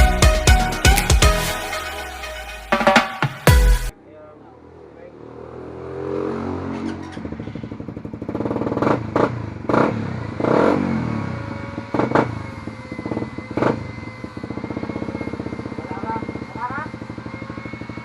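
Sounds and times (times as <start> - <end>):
motorcycle engine revving: 3.0 - 18.0.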